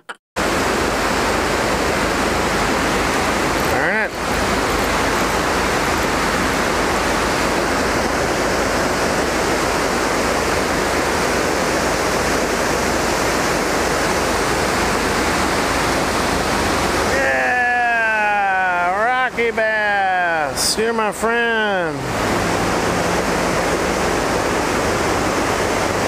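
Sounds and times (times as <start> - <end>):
river water rushing over rapids: 0.4 - 26.0.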